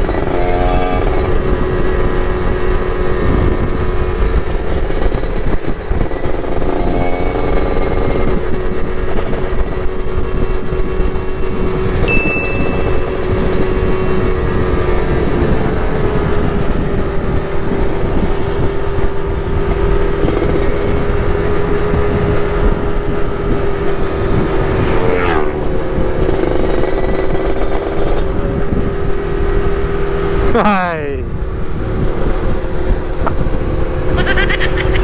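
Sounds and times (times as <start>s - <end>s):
wind rumble on microphone: 0.0s - 30.6s, 31.2s - 35.0s
two-stroke motorcycle engine: 0.0s - 35.0s.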